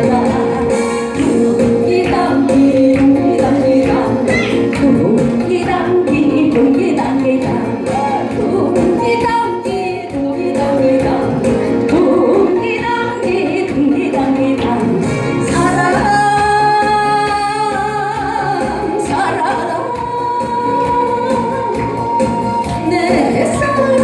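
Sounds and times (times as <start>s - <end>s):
instrumental backing music: 0.0s - 24.0s
woman singing: 0.0s - 24.0s.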